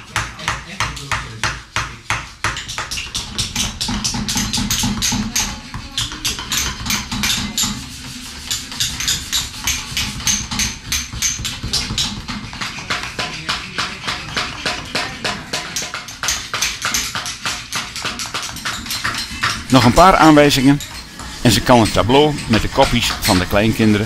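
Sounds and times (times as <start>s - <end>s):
hammers striking chisels into stone: 0.0s - 24.0s.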